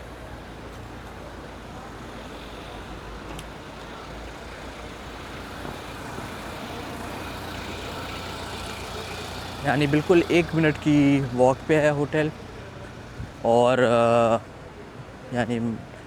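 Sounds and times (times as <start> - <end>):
passing cars hum: 0.0 - 16.0.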